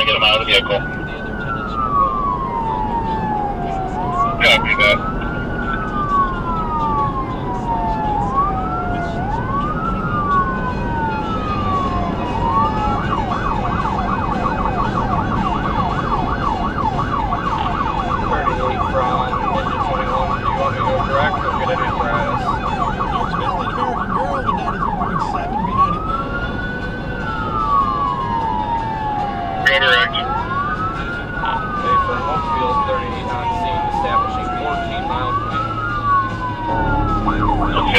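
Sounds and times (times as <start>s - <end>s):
electronic siren wailing and yelping: 0.0s - 37.9s
road noise: 0.0s - 37.9s.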